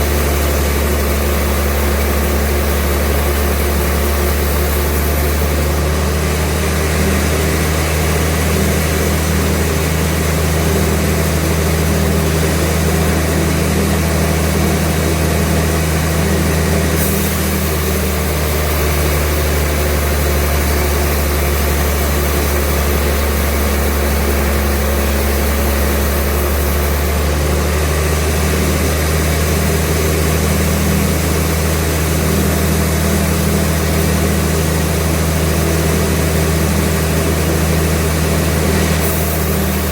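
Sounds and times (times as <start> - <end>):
sawmill machinery engine drone: 0.0 - 39.9.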